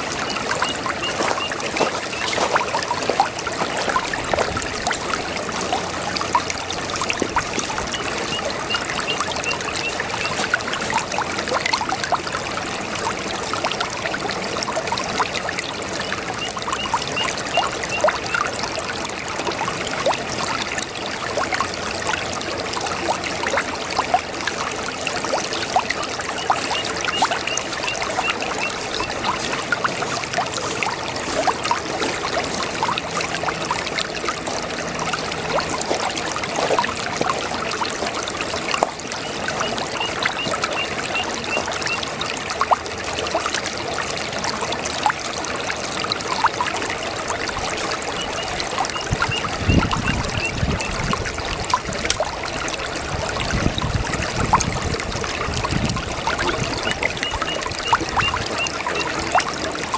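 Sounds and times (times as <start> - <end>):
brook water trickling over stones: 0.0 - 59.9.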